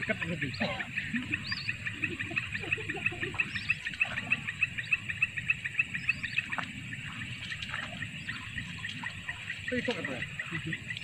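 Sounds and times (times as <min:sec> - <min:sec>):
whistling ducks calling: 0:00.0 - 0:11.0.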